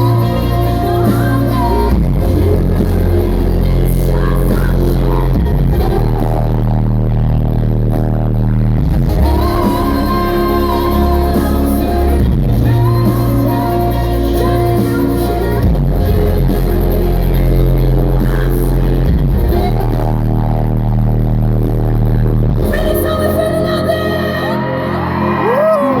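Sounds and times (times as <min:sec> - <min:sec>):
woman singing: 0:00.0 - 0:06.8, 0:09.0 - 0:20.5, 0:22.6 - 0:26.0.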